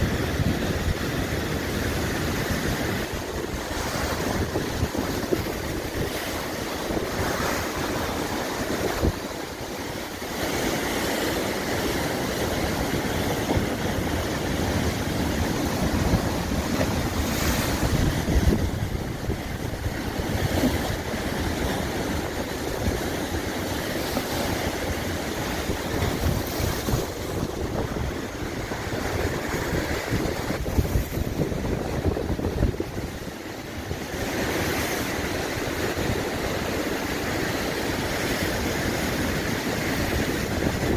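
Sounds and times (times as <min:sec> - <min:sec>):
sea surf washing on shore: 0:00.0 - 0:40.9
wind buffeting microphone: 0:00.0 - 0:40.9.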